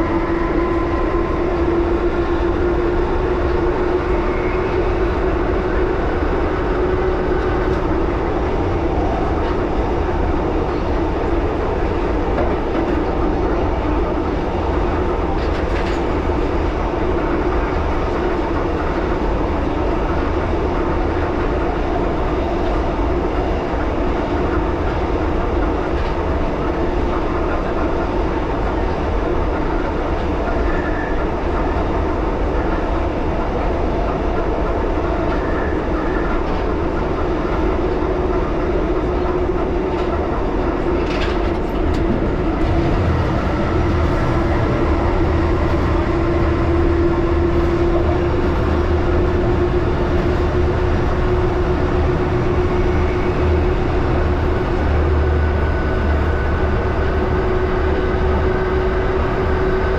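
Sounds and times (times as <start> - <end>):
train running on track: 0.0 - 59.9.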